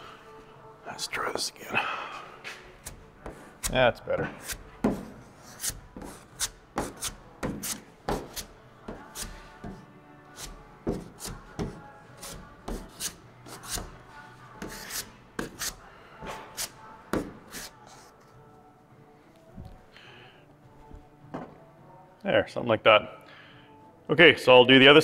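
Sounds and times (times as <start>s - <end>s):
faint music: 0.0s - 25.0s.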